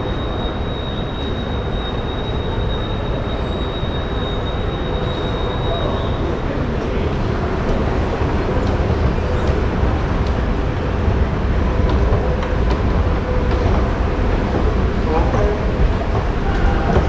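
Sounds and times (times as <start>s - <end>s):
escalator rumbling: 3.1s - 17.0s.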